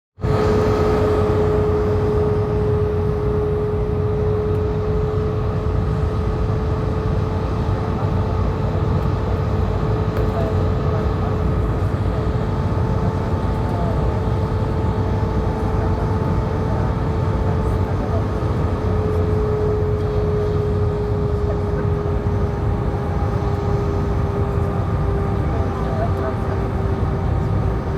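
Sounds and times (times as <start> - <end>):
jet engines and airflow rush: 0.2 - 27.9.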